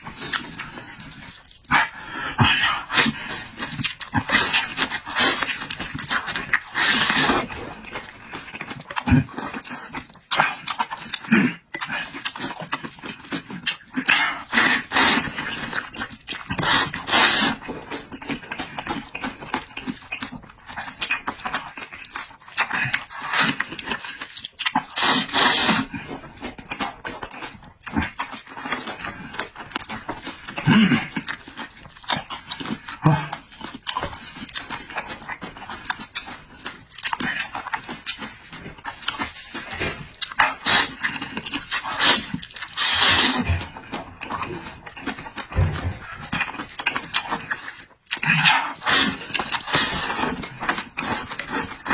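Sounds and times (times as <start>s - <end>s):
person chewing and slurping: 0.0s - 51.9s.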